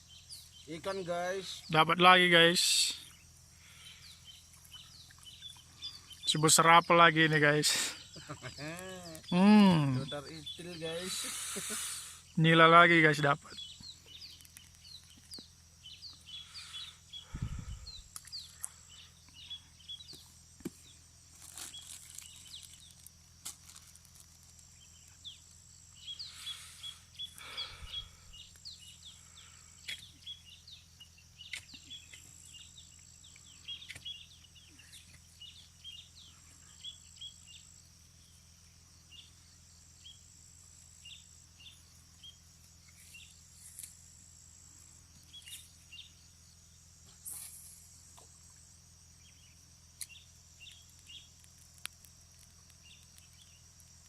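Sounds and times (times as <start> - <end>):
birds chirping: 0.0 - 21.1, 24.6 - 43.7, 44.3 - 46.6, 49.1 - 53.8
insect drone: 0.0 - 54.0.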